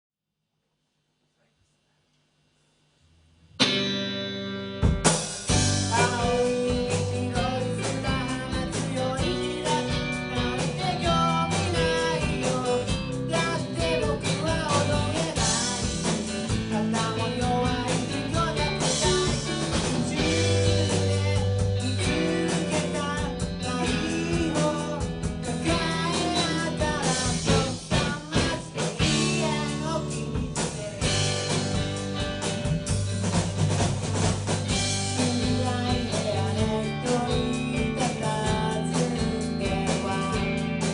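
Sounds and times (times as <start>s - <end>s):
rock band playing live: 3.6s - 40.9s.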